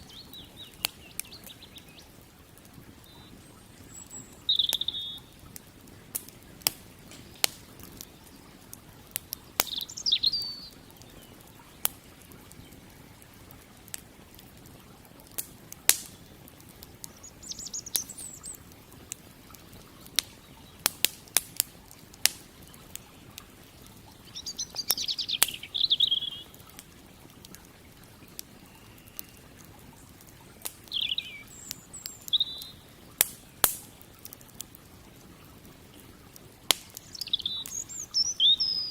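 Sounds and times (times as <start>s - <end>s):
birds chirping: 0.0s - 13.6s, 16.1s - 21.4s, 22.1s - 34.3s, 36.9s - 38.9s
campfire crackling and popping: 0.0s - 38.9s.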